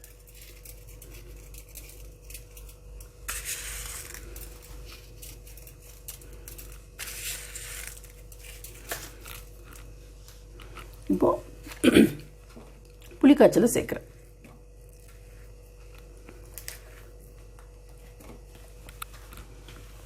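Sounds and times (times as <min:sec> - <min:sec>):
sesame seeds crackling and rustling: 0:00.0 - 0:13.2, 0:14.0 - 0:19.4.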